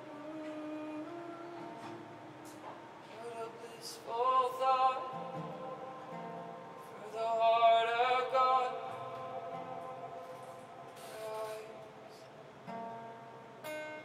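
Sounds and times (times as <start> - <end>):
person singing: 0.0 - 12.3
soft instrumental backing: 0.0 - 14.0.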